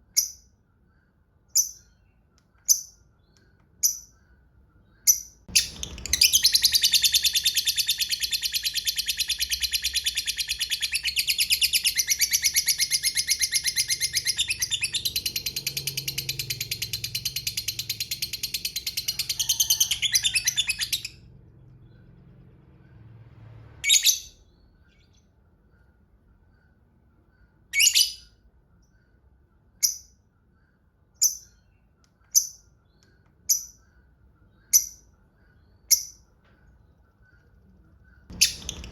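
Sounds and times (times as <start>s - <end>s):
bird chirps: 0.0s - 23.2s, 23.8s - 38.9s.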